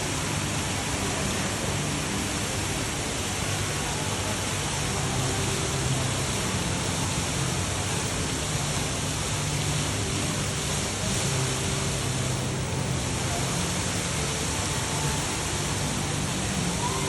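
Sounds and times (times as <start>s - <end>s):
indoor waterfall pouring: 0.0s - 17.0s.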